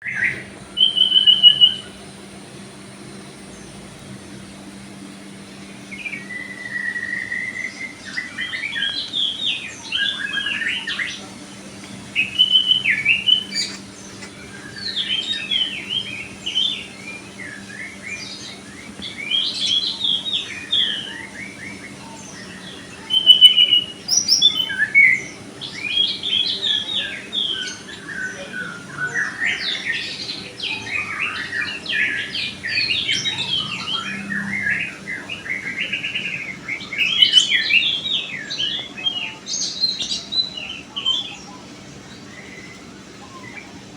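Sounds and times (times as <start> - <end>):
songbirds singing and chirping: 0.0 - 43.9.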